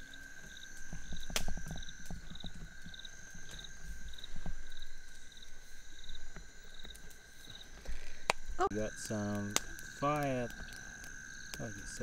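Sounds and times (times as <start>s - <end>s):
insect chirps: 0.0s - 12.0s
insects droning: 0.0s - 12.0s.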